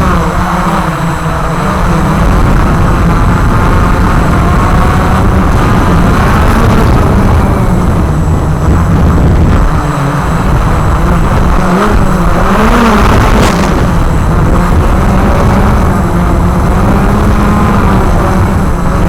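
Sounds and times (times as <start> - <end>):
drone motors and propellers: 0.0 - 19.0
heavy low rumble: 0.0 - 19.0.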